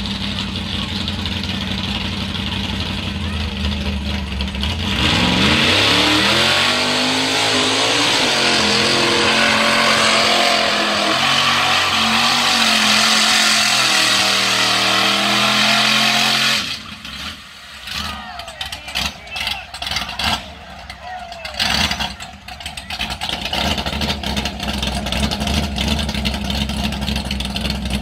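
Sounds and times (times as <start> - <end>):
truck engine revving hard: 0.0 - 28.0.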